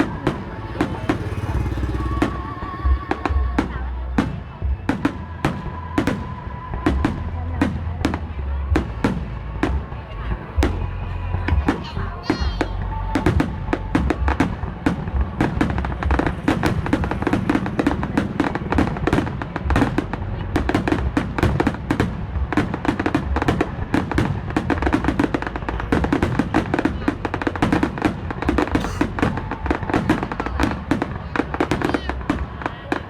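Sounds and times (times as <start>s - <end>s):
low rumble: 0.0s - 32.8s
fireworks bangs: 0.0s - 33.0s
music: 0.0s - 33.0s.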